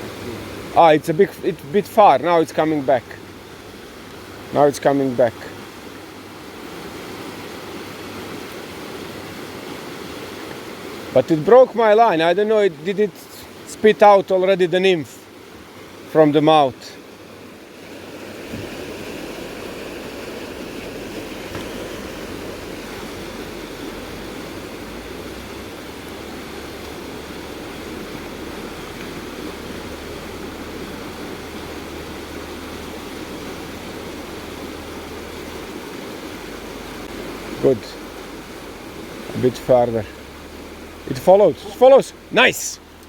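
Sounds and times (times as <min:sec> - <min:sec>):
river current rushing: 0:00.0 - 0:43.0.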